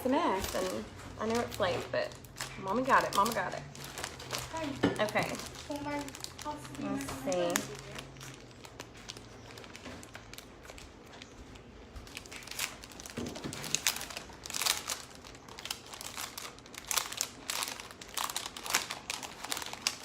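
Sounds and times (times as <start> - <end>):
plastic sheets crinkling: 0.0 - 20.0.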